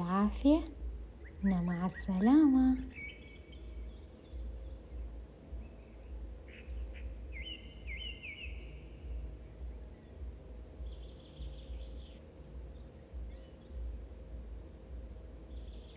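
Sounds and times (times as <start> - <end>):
faint bird chirps: 0.0 - 15.9
low steady rumble: 0.0 - 15.9.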